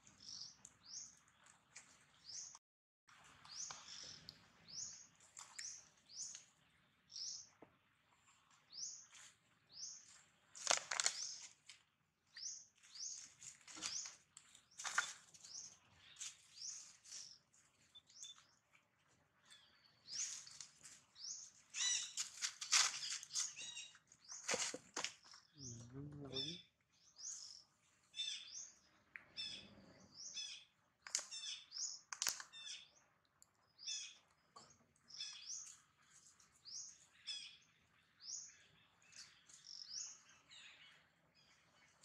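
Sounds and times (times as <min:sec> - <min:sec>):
small bird chirping: 0:00.0 - 0:02.6, 0:03.4 - 0:07.7, 0:08.3 - 0:42.0.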